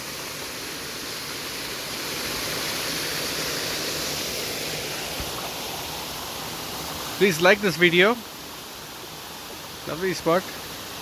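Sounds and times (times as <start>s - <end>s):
rushing water of waterfall: 0.0s - 11.0s.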